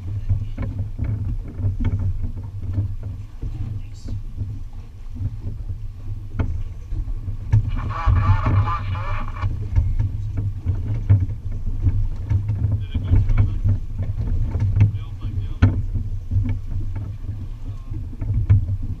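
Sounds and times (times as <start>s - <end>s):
boat engine rumble: 0.0s - 19.0s
knocks against hull: 0.0s - 19.0s
wind on microphone: 0.0s - 19.0s.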